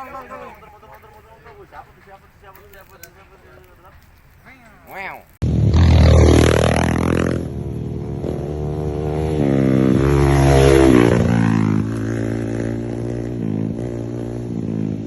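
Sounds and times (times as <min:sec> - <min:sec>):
motocross bike passing: 0:00.0 - 0:04.5, 0:05.1 - 0:15.0
motocross bike engines: 0:00.0 - 0:15.0.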